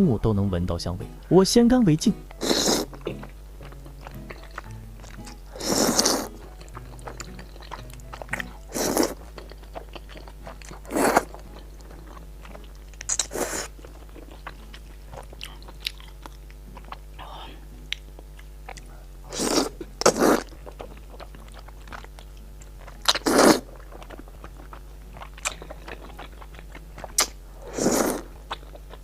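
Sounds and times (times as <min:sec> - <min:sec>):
faint background music: 0:00.0 - 0:29.0
chewing with wet mouth clicks: 0:02.3 - 0:17.0, 0:17.9 - 0:27.4, 0:28.1 - 0:29.0.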